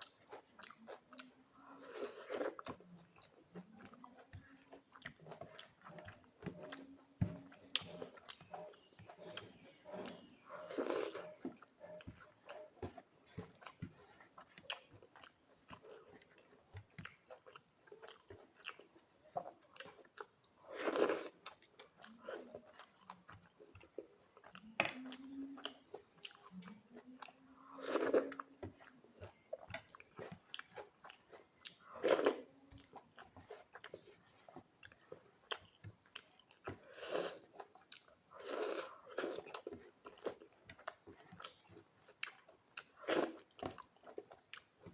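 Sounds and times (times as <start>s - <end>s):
person chewing and lip-smacking: 0.0s - 44.9s.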